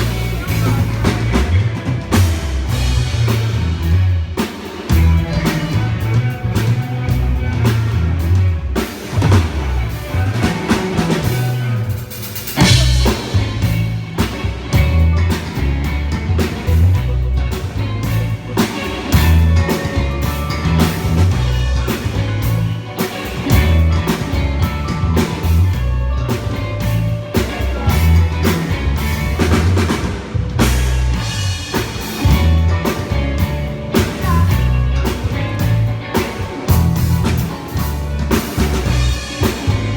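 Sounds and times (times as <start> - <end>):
band playing: 0.0 - 39.9
drum kit beat: 0.0 - 39.9
low bass line: 0.0 - 39.9.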